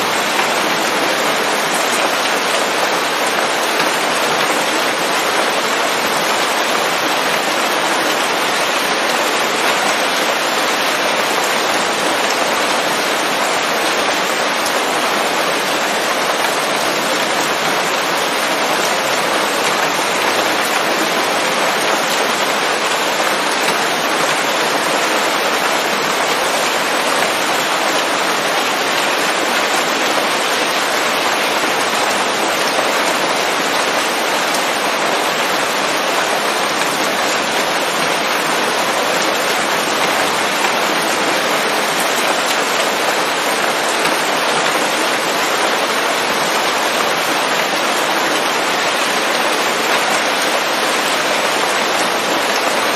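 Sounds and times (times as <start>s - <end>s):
rain pattering on leaves: 0.0s - 52.9s.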